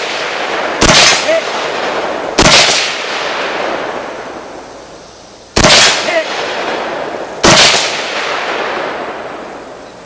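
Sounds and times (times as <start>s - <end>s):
rifle shots with echo: 0.0s - 4.6s, 5.6s - 9.8s.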